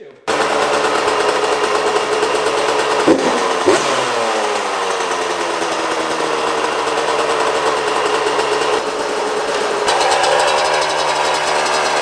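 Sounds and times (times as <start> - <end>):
small motorcycle engine revving: 0.3 - 12.0.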